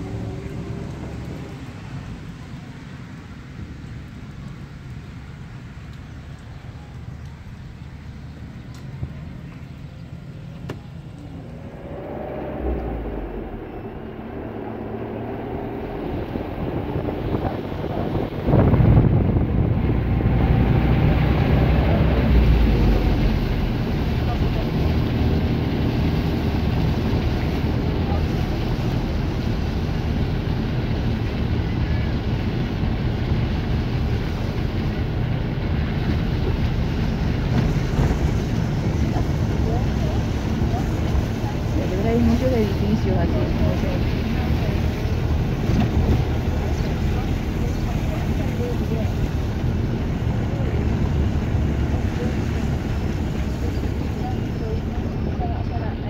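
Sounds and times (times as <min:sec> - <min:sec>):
engine running: 0:00.0 - 0:56.0
moving vehicle rumble from inside: 0:00.0 - 0:56.0
wind buffeting microphone: 0:00.0 - 0:56.0.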